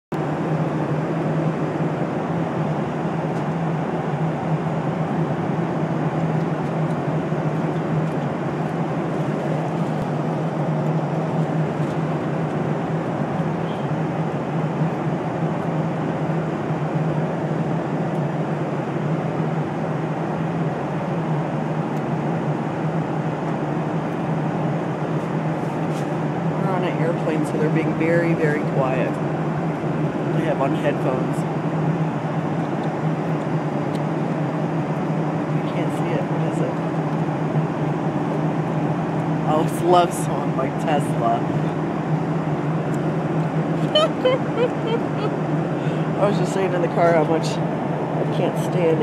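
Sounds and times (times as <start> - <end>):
airliner cabin engine drone: 0.1 - 49.0
constant low hum: 0.1 - 49.0.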